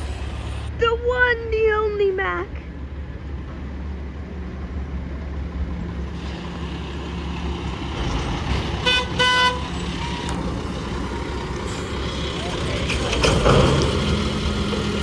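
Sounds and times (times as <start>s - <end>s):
garbage truck engine running: 0.0s - 0.8s, 2.8s - 15.0s.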